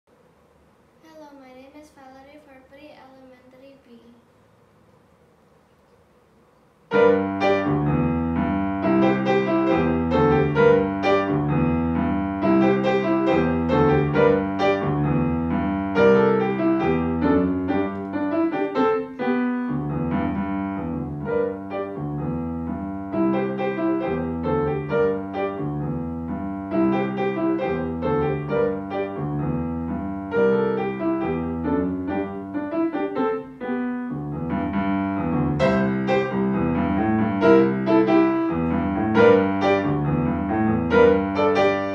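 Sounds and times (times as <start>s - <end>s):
grand piano played solo: 6.9s - 41.9s.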